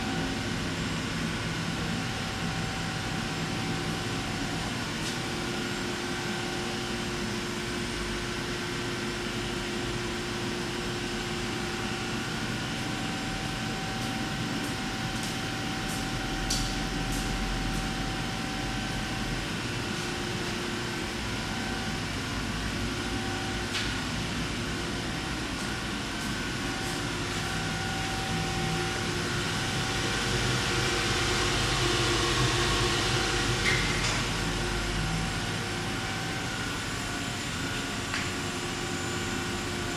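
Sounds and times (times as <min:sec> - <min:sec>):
machine humming: 0:00.0 - 0:39.9.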